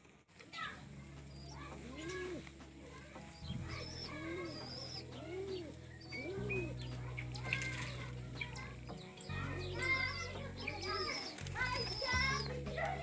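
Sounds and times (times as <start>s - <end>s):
pigeons cooing: 1.3s - 13.0s.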